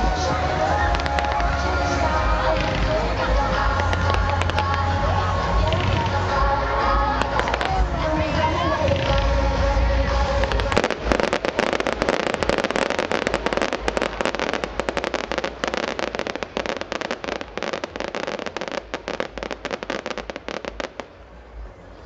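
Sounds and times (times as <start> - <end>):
fireworks crackling: 0.0 - 21.6.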